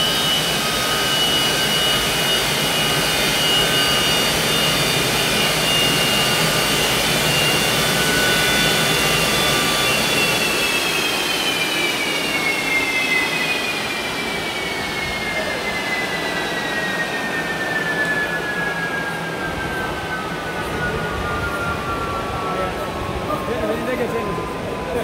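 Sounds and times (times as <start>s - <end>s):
jet engine roaring with high whine: 0.0s - 25.0s.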